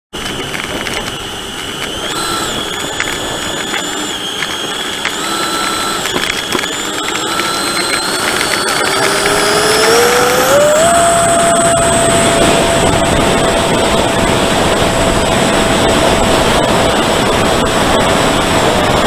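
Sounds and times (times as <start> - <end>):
model plane motor whining: 0.2 - 19.0.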